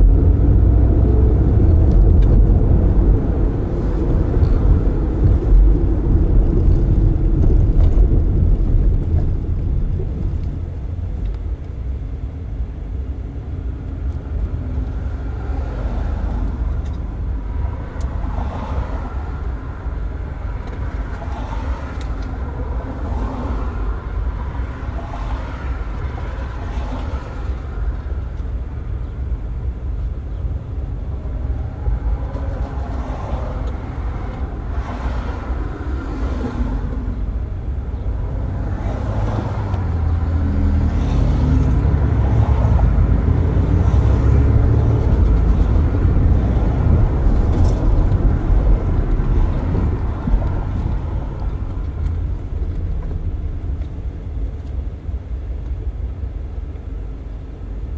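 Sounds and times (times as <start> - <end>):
tyre and road rumble: 0.0 - 57.8.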